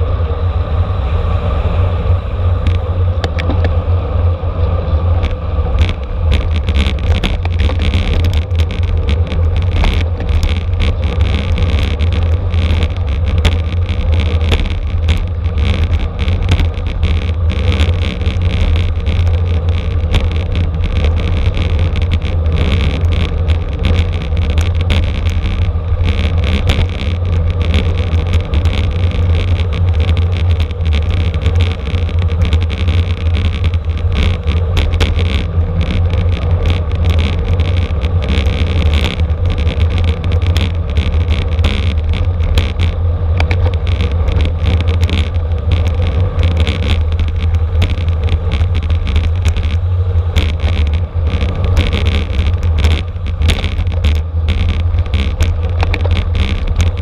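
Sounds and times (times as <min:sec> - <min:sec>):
road and wind rumble from bicycle: 0:00.0 - 0:57.0
small ticks and rattles: 0:05.2 - 0:57.0.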